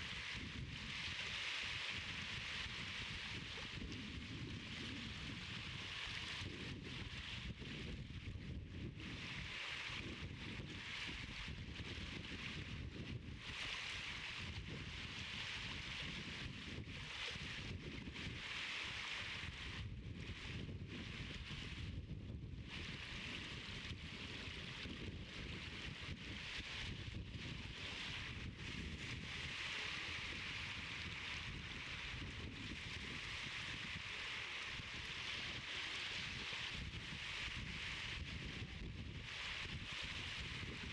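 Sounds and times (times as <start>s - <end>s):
wind hiss: 0.0s - 40.9s
wind rumble on microphone: 0.0s - 40.9s.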